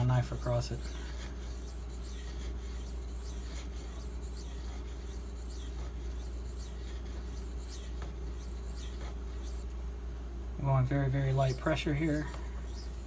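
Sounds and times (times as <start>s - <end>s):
knife strokes on sharpening stone: 0.0s - 9.7s, 11.4s - 13.0s
steady low hum: 0.0s - 13.0s.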